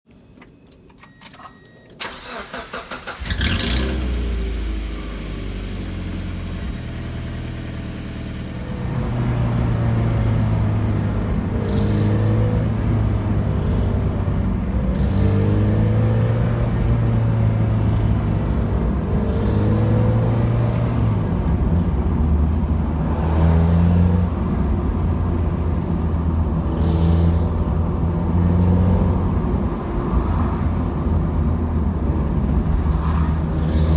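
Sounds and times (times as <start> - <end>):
car engine cranking and running: 0.4 - 13.1, 14.4 - 23.2, 24.3 - 33.9.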